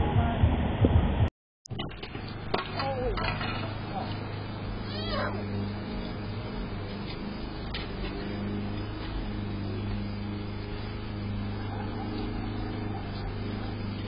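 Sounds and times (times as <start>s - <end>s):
low hum: 0.0s - 14.0s
car engine and road drone: 1.8s - 14.0s.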